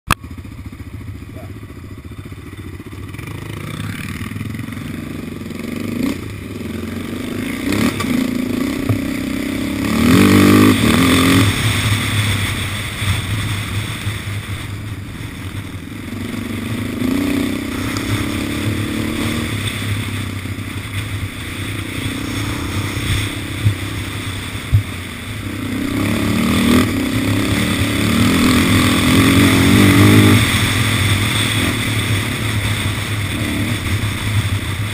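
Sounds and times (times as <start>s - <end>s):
quad engine accelerating: 0.1s - 34.9s.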